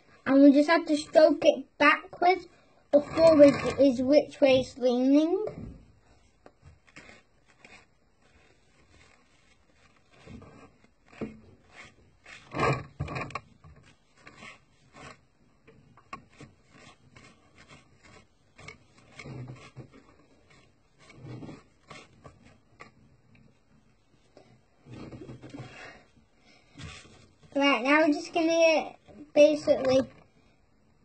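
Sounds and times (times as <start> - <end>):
cloth rubbing on plastic: 0.2 - 5.0, 6.1 - 23.6, 26.7 - 30.2.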